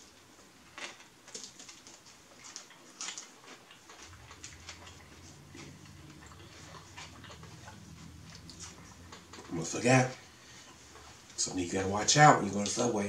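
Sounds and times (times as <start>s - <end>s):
person chewing a sandwich: 0.0s - 11.4s
low steady hum: 0.0s - 13.0s.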